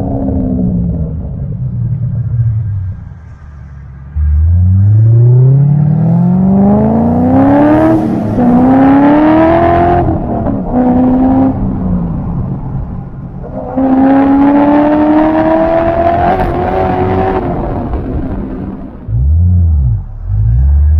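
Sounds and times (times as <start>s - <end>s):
car engine accelerating hard: 0.0s - 20.9s.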